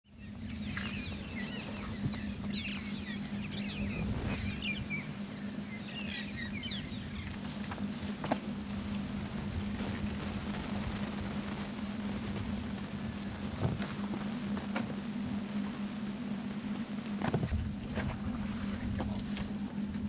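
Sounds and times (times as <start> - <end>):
birds chirping: 0.0 - 20.0
low hum: 0.0 - 20.0.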